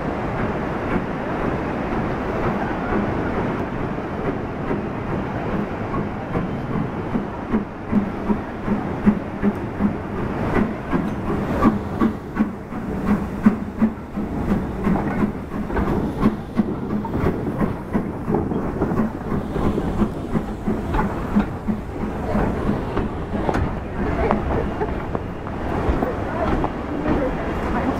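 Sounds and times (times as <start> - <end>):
steady locomotive rumble: 0.0 - 27.9
steam locomotive clicks and clanks: 0.0 - 27.9.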